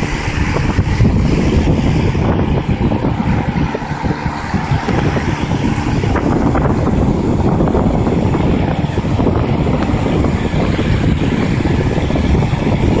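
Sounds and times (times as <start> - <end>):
air buffeting microphone: 0.0 - 13.0
heat pump fan and compressor: 0.0 - 13.0.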